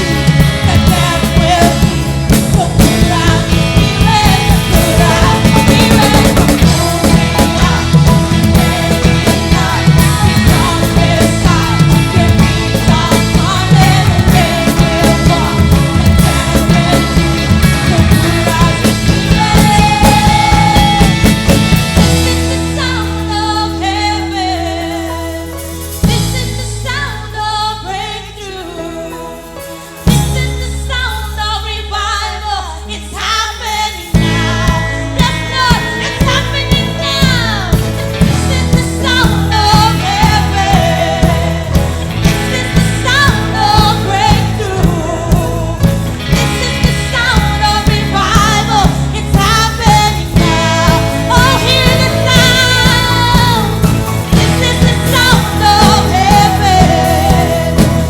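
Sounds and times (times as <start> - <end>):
steady drum beat: 0.0 - 26.8, 34.1 - 58.0
loud rock band music: 0.0 - 58.0
low bass and keys: 0.0 - 58.0
person singing: 0.0 - 58.0.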